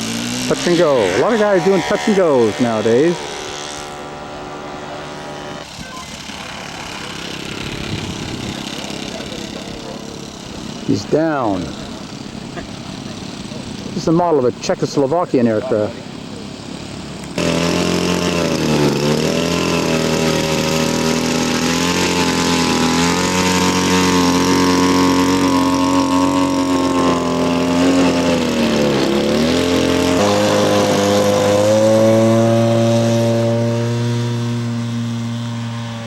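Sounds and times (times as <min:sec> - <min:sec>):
model aircraft engine running: 0:00.0 - 0:36.0.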